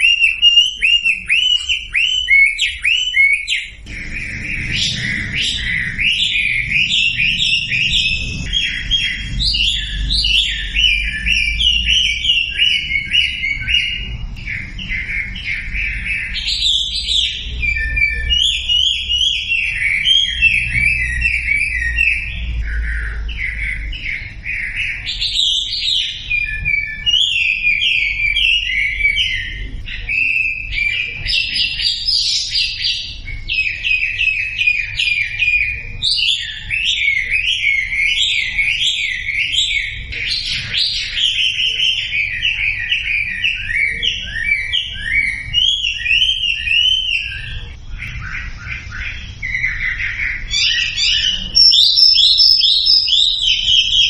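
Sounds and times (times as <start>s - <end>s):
bird chirping and trilling: 0.0s - 54.0s.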